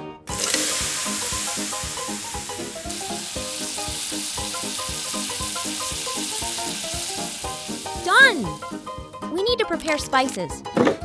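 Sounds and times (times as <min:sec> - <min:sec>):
light background music: 0:00.0 - 0:11.0
crabs sizzling in hot oil: 0:00.3 - 0:09.3.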